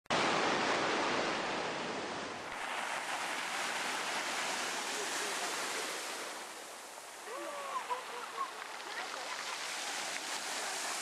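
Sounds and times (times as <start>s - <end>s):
surf rushing and foaming: 0.1s - 11.0s.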